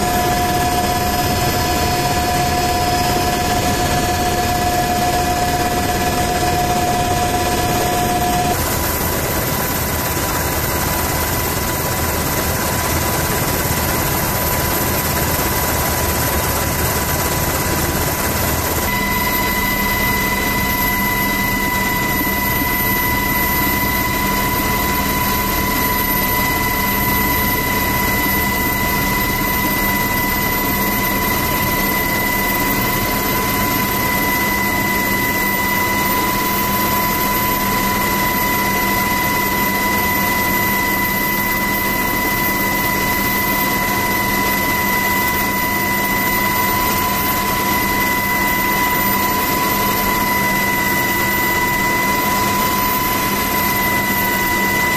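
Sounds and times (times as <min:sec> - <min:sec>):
helicopter rotor and engine noise: 0:00.0 - 0:54.9
high-pitched whine: 0:00.0 - 0:54.9.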